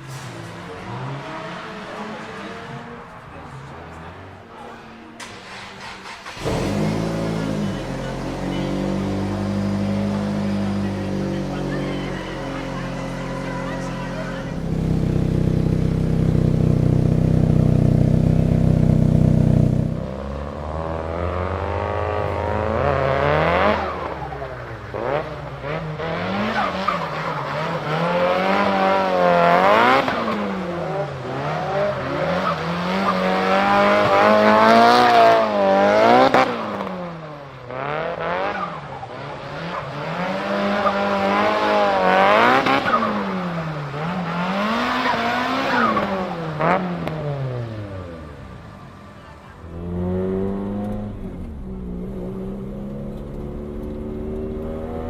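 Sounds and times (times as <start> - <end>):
turbocharged car engine revving: 0.0 - 55.0.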